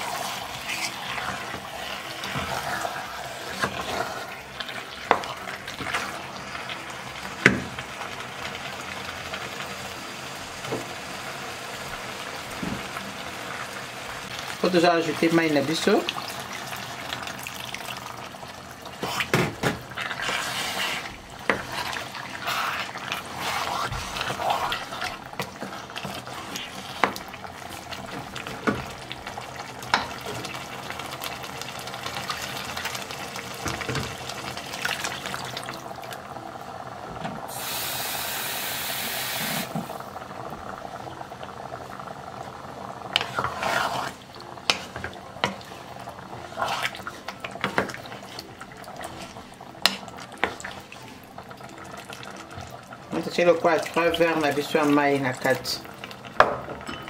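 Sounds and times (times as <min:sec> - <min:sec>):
wooden spoon stirring pot: 0:00.0 - 0:07.9, 0:14.5 - 0:36.2, 0:40.6 - 0:57.0
stew simmering with bubbling pops: 0:00.0 - 0:38.6, 0:39.2 - 0:57.0.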